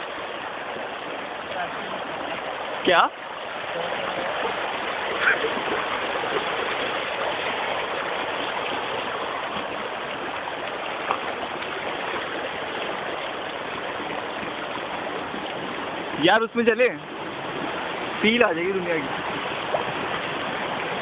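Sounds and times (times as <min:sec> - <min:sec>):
water rushing and trickling: 0:00.0 - 0:21.0.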